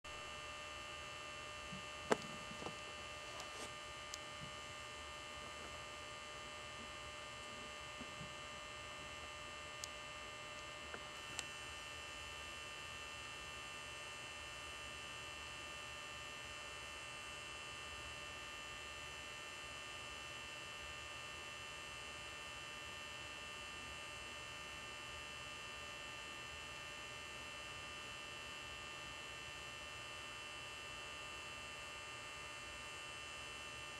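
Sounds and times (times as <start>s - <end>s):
electrical hum with high whine: 0.1s - 33.9s.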